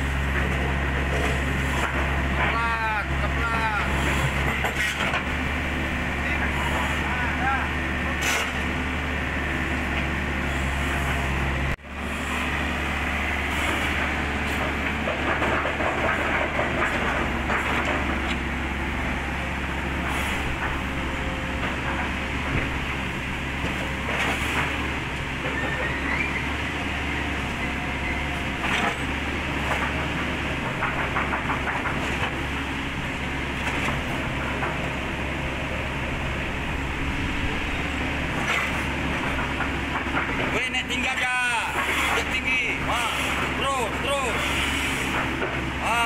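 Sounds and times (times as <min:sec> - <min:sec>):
excavator diesel engine running: 0:00.0 - 0:46.0
steel tracks clanking on ramp: 0:00.2 - 0:05.6, 0:06.2 - 0:08.8, 0:13.4 - 0:46.0.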